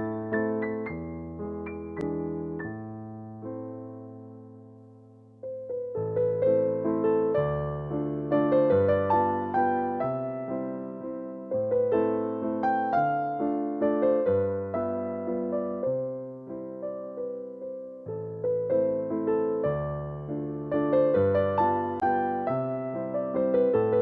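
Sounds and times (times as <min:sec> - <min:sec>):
electric piano melody: 0:00.0 - 0:24.0.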